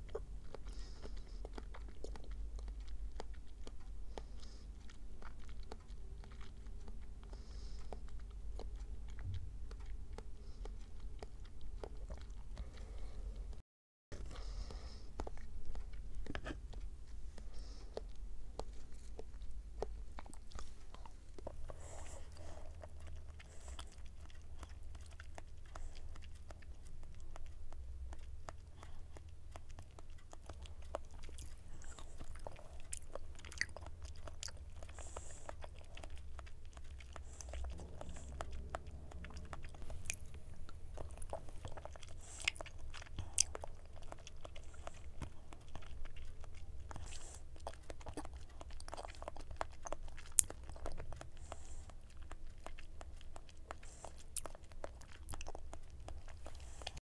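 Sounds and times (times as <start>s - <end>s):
person chewing jelly: 0.0s - 57.0s.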